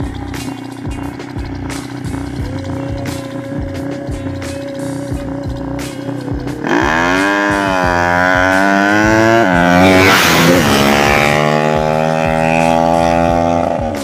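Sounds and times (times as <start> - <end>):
motorcycle accelerating hard: 0.0 - 14.0.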